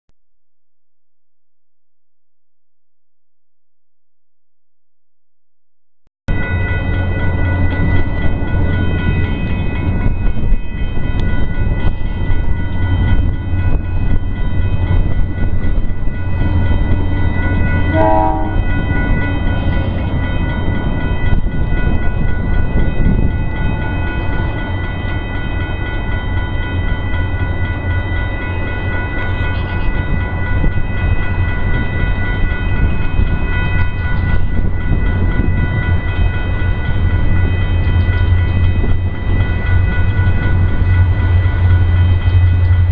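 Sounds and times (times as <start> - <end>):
distant freight train rumble: 6.3 - 42.9
ringing chord of high tones: 6.3 - 42.9.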